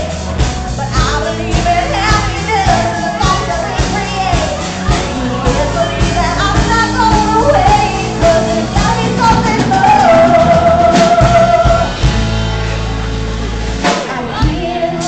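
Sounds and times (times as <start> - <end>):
woman singing: 0.0 - 12.0, 13.9 - 15.0
live band playing: 0.0 - 15.0.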